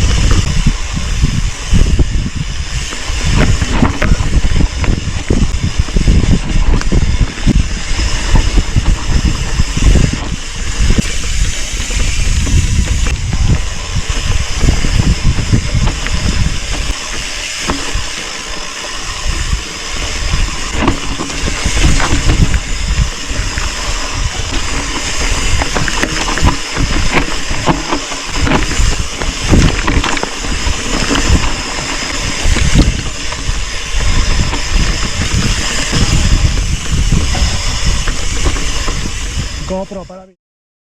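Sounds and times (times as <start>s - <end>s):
tyres rushing on dirt: 0.0s - 39.8s
bike knocking and rattling: 0.0s - 39.9s
wind buffeting microphone: 0.0s - 40.3s.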